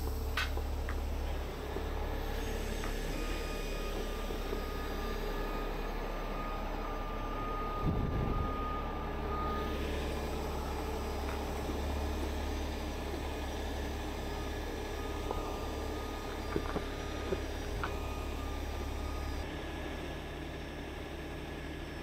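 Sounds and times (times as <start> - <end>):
diesel truck engine idling: 0.0 - 22.0
thin steady whine: 0.0 - 22.0.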